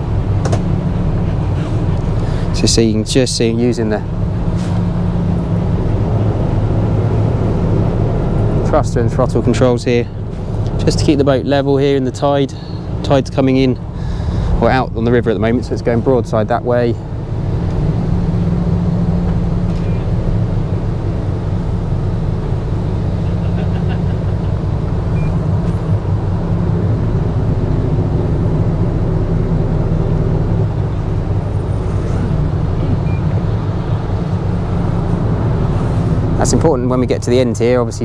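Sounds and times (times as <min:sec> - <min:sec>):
boat diesel engines idling: 0:00.0 - 0:38.0.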